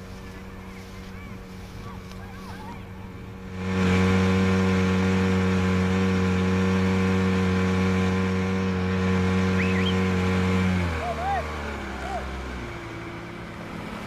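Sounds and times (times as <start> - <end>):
motorboat engine running: 0.0 - 14.0.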